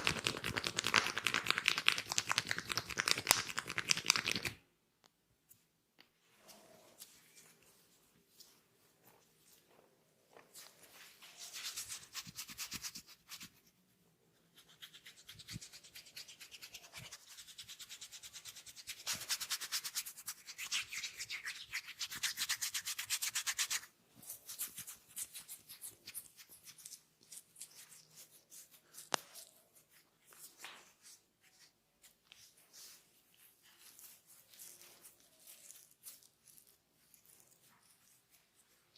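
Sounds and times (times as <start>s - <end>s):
hands rubbing oiled skin: 0.0s - 4.6s, 6.5s - 13.6s, 14.5s - 38.9s.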